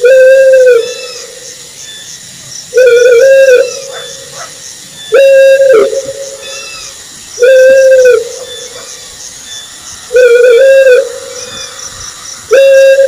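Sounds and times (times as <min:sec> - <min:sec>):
owl hooting: 0:00.0 - 0:01.4, 0:02.7 - 0:13.0.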